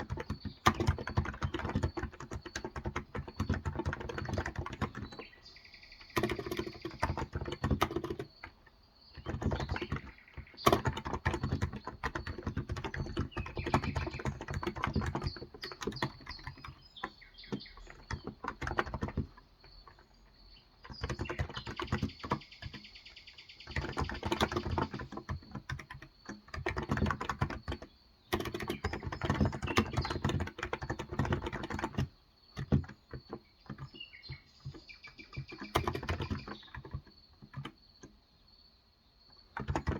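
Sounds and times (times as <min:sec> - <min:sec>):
soft muted keyboard typing: 0:00.0 - 0:38.4, 0:39.3 - 0:39.9.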